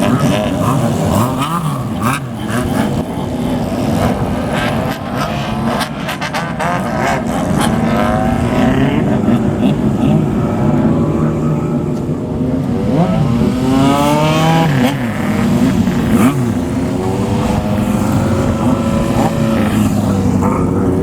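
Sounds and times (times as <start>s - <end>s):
motorcycle engine revving: 0.0s - 21.0s
motorcycle engines running: 0.0s - 21.0s.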